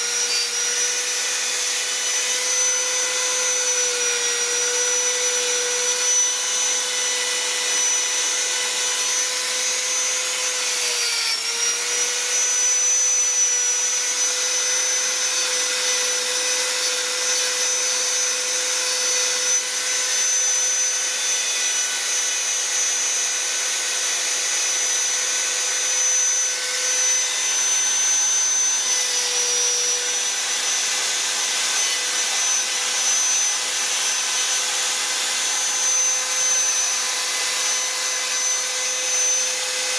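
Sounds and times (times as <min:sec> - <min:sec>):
rotary carving tool grinding wood: 0:00.0 - 0:39.9.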